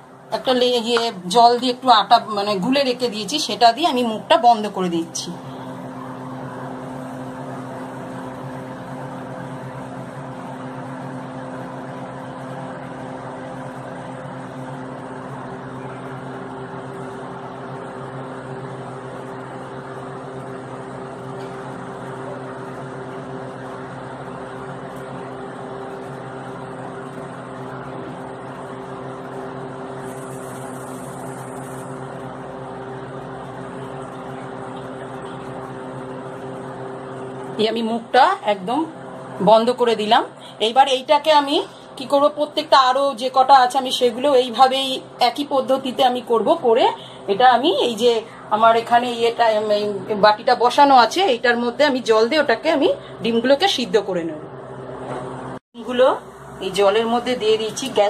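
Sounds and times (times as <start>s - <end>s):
machine hum over hiss: 0.0s - 58.0s.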